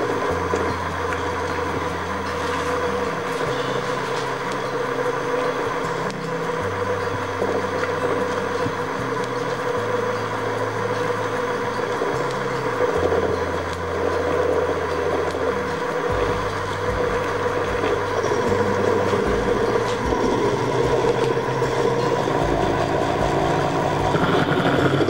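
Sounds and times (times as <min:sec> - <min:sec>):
milling machine motor whine: 0:00.0 - 0:25.0.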